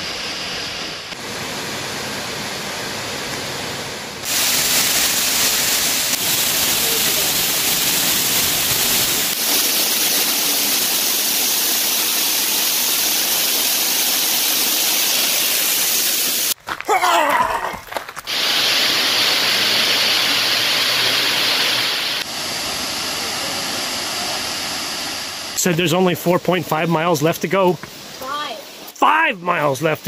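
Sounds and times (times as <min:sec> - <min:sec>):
waterfall rushing water: 0:00.0 - 0:16.6, 0:18.3 - 0:30.0.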